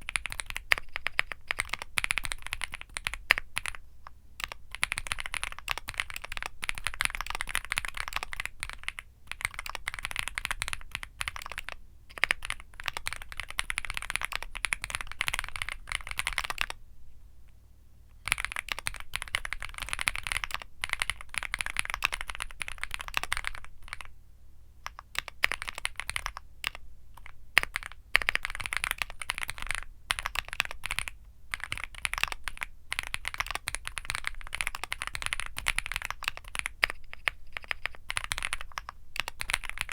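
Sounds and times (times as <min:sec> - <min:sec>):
mechanical keyboard typing: 0:00.0 - 0:03.8, 0:04.4 - 0:16.8, 0:18.2 - 0:24.1, 0:24.8 - 0:39.9.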